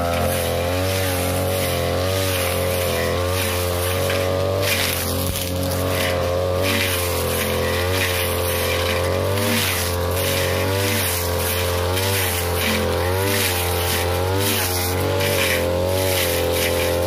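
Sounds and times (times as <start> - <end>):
brush cutter engine running: 0.0 - 17.0
grass being cut swish: 0.0 - 17.0.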